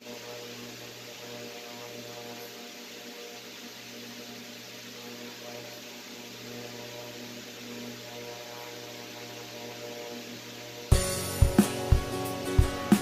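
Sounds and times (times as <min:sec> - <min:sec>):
electrical hum: 0:00.0 - 0:13.0
even hiss: 0:00.0 - 0:13.0.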